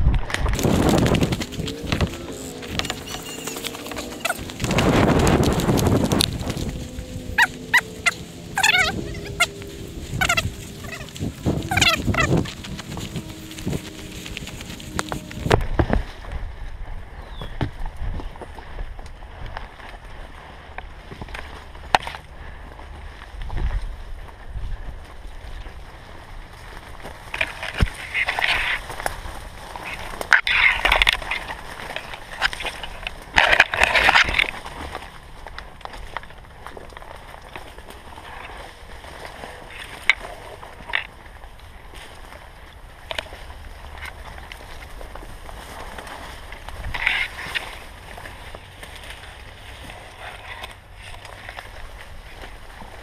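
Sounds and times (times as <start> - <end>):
branches swishing against camera: 0.0 - 53.0
foliage crackling: 0.0 - 53.0
footsteps crunching twigs and leaves: 0.0 - 53.0.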